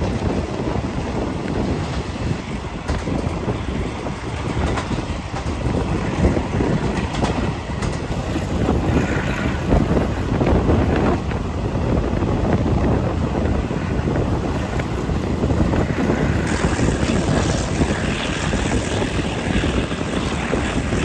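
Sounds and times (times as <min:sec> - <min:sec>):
train running on rails: 0:00.0 - 0:21.0
wind rushing over microphone: 0:00.0 - 0:21.0.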